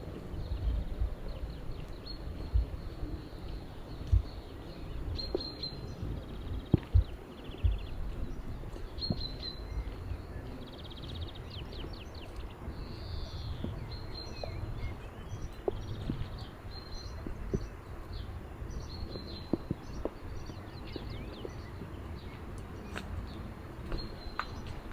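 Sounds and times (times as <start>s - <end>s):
footsteps on a path: 0.0s - 24.9s
small birds chirping: 0.0s - 24.9s
songbirds singing: 0.0s - 24.9s.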